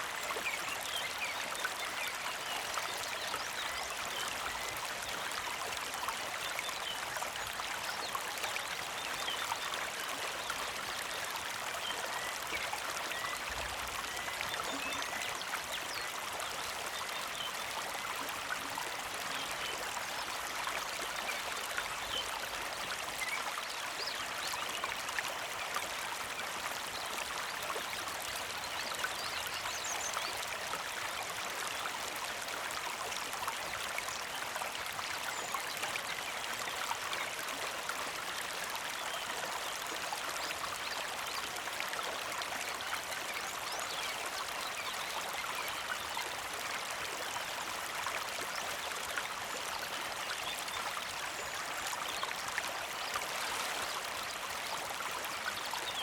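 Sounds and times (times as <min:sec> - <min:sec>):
creek flowing: 0:00.0 - 0:56.0.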